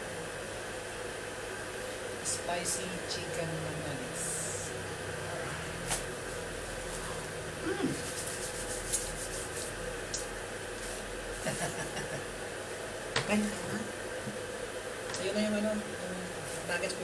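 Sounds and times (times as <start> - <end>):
steady room hum: 0.0 - 17.0.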